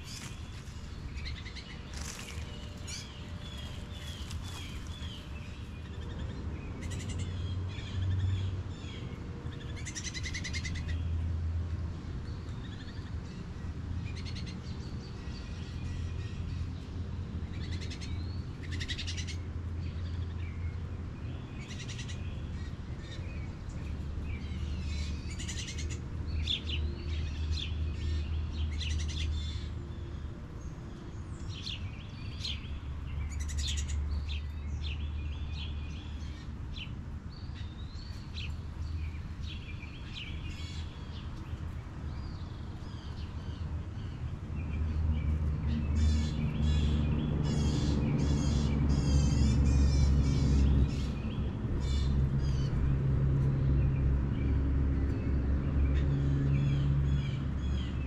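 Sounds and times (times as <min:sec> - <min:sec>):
songbirds calling and singing: 0:00.0 - 0:58.0.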